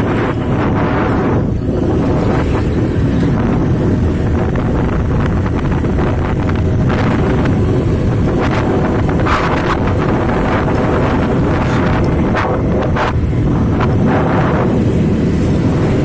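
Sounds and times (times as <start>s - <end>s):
truck traffic rumbling: 0.0s - 16.0s
wind buffeting microphone: 0.0s - 16.0s.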